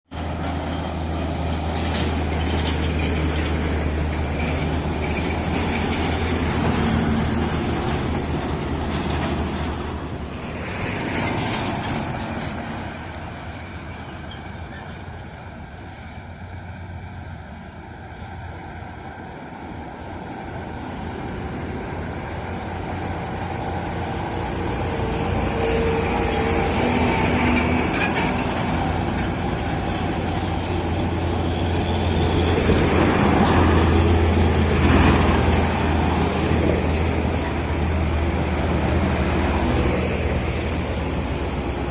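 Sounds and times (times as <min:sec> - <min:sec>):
road traffic: 0:00.0 - 0:41.9
heavy truck engine drone: 0:00.1 - 0:41.9.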